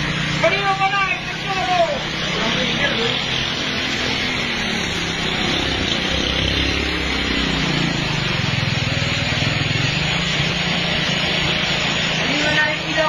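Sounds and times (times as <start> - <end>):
truck engine labouring uphill: 0.0 - 13.0.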